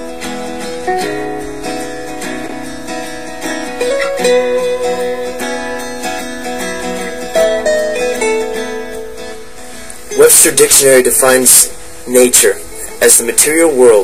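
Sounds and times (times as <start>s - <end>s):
acoustic guitar melody: 0.0s - 14.0s.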